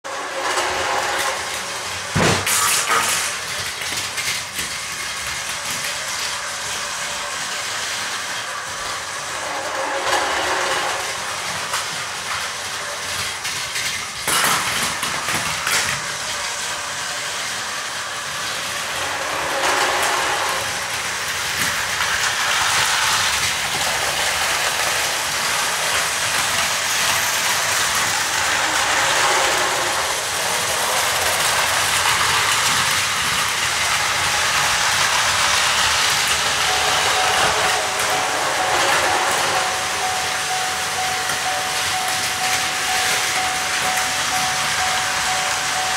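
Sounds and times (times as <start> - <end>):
toy train motor whirring: 0.0 - 45.9
toy train rattling: 0.1 - 45.9.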